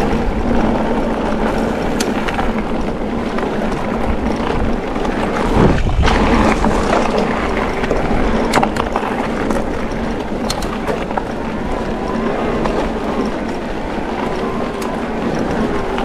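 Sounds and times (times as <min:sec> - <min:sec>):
bike clicks and knocks: 0:00.0 - 0:16.0
bike tyres crunching on gravel: 0:00.0 - 0:16.0
wind on microphone: 0:00.0 - 0:16.0.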